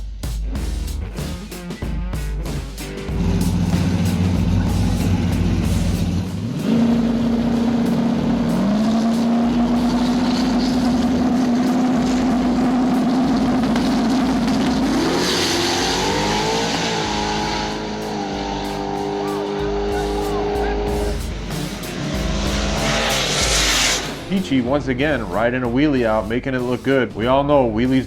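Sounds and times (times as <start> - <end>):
drag racing cars at full throttle: 2.8 - 26.0.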